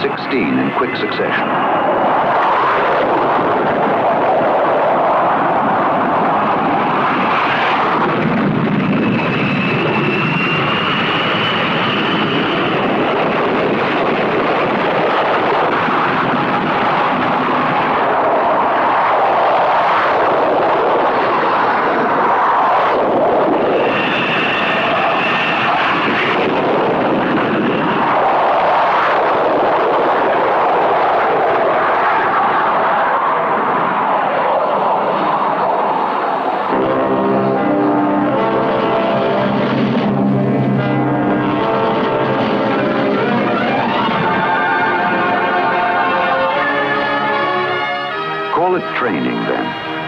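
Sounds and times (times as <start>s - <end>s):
high turbine whine: 0.0s - 50.0s
jet engines roaring: 0.0s - 50.0s.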